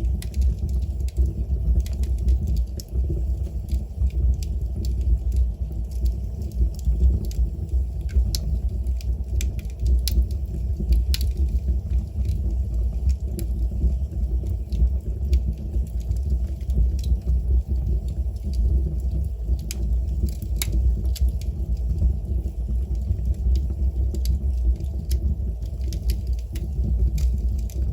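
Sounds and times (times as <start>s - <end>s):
fire crackling and popping: 0.0s - 27.9s
low fire rumble: 0.0s - 27.9s.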